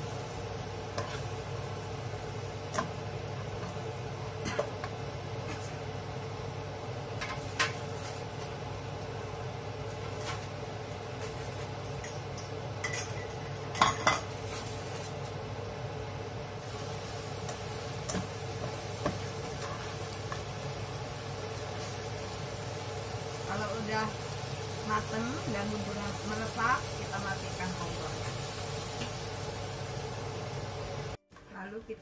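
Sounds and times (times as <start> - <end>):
sauce sizzling in pan: 0.0 - 31.2.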